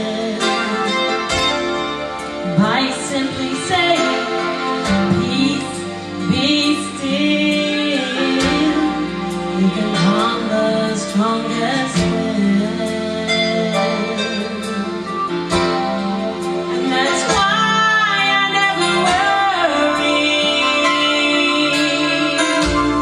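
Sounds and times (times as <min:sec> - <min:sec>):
instrumental accompaniment: 0:00.0 - 0:23.0
gospel group singing: 0:02.5 - 0:23.0.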